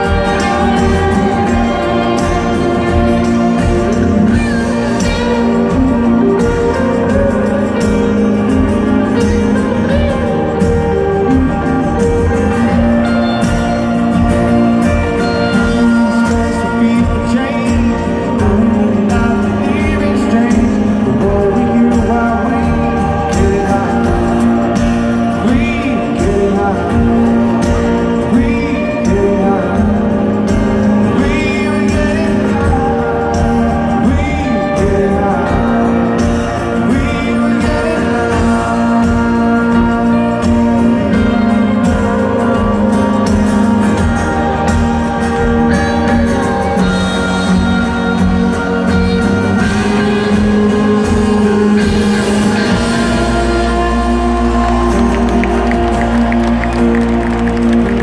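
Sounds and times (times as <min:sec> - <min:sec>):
man singing: 0:00.0 - 0:57.2
live rock band playing: 0:00.0 - 0:58.0.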